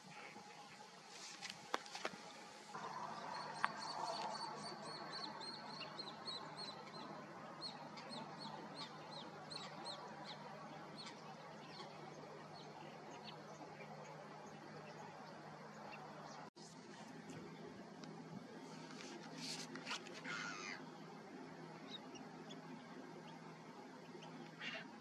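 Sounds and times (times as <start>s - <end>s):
low background noise: 0.0s - 25.0s.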